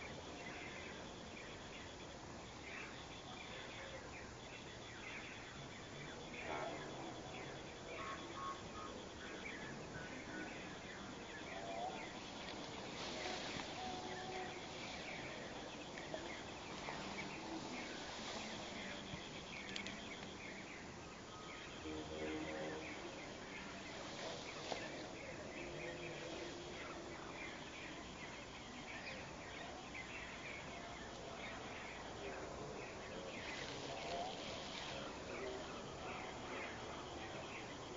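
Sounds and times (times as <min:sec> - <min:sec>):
birds chirping: 0:00.0 - 0:37.9
high insect trill: 0:00.0 - 0:37.9.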